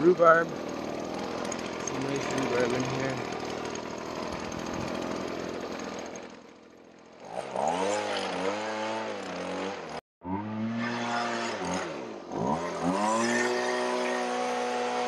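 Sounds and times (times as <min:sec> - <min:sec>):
small gasoline engine revving: 0:00.0 - 0:15.0.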